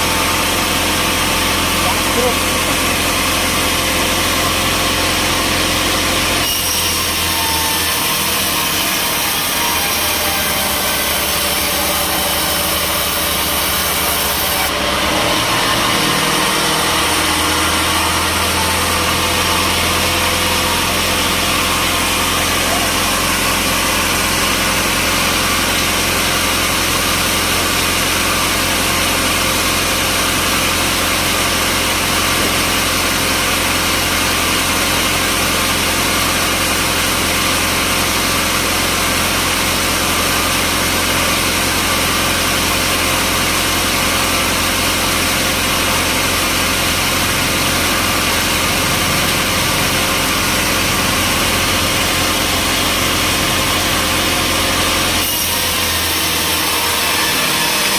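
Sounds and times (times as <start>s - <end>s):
sawmill engine drone: 0.0s - 57.9s.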